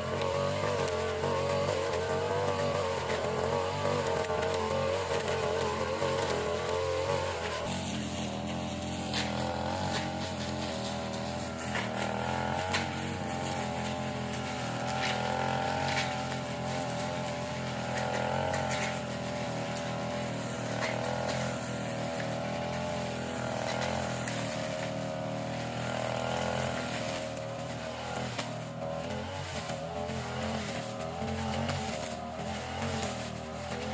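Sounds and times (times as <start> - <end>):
small petrol engine running: 0.0 - 33.9.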